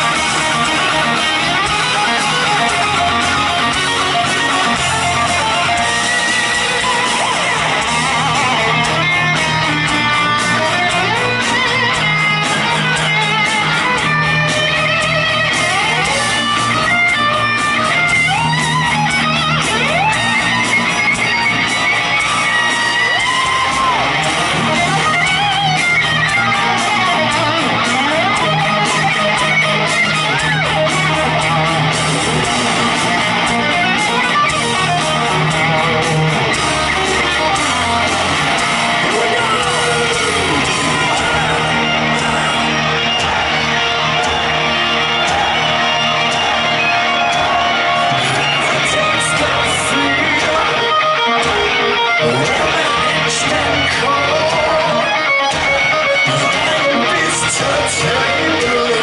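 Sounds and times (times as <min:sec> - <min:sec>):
electric guitar solo: 0:00.0 - 0:59.0
rock band playing live: 0:00.0 - 0:59.0
sustained bass notes: 0:00.0 - 0:59.0.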